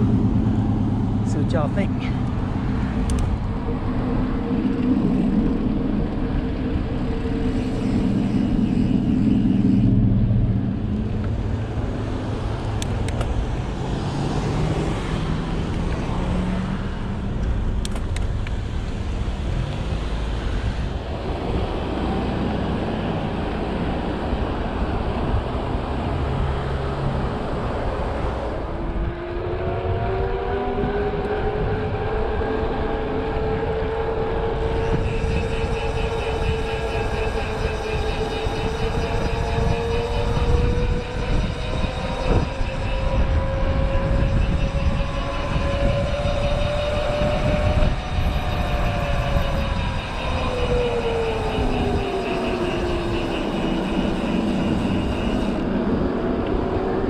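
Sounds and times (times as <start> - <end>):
road rumble: 0.0 - 57.0.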